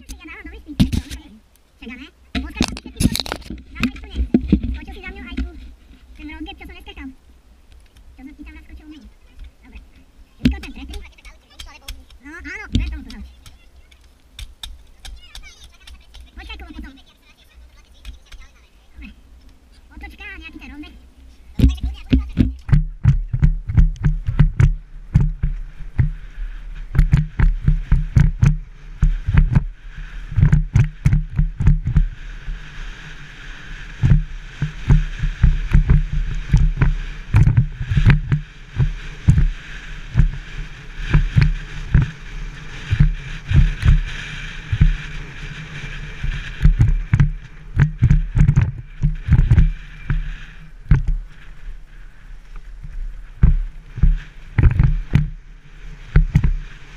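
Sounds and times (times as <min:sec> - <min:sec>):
rush of wind and tyres: 0:00.0 - 0:15.3, 0:16.0 - 0:56.9.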